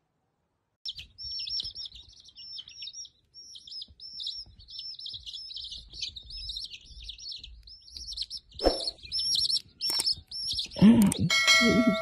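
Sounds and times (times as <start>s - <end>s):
chicks peeping: 0.9s - 12.0s.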